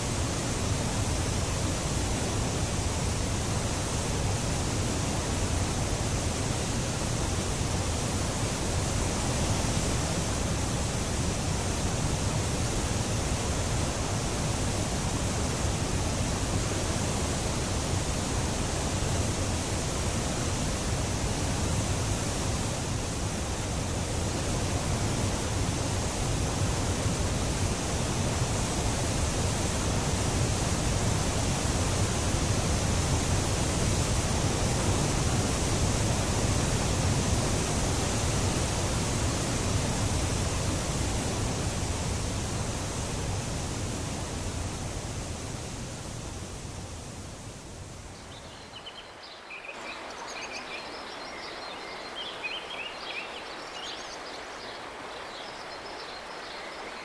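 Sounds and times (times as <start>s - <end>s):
whitewater rushing: 0.0s - 48.1s.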